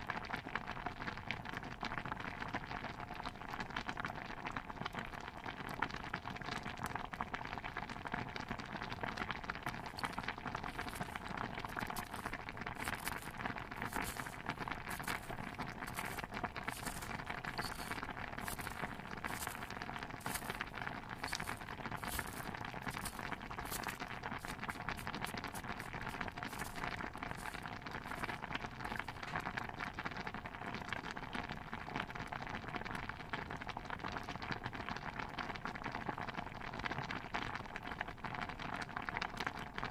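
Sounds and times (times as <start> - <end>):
constant crackle: 0.0 - 39.9
stew pot bubbling: 0.0 - 39.9.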